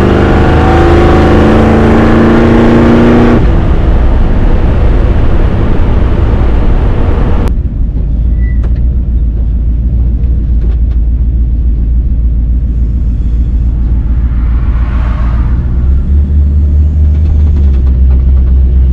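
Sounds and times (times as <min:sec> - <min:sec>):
car engine accelerating: 0:00.0 - 0:07.6, 0:09.4 - 0:18.9
low exhaust rumble: 0:03.4 - 0:18.9.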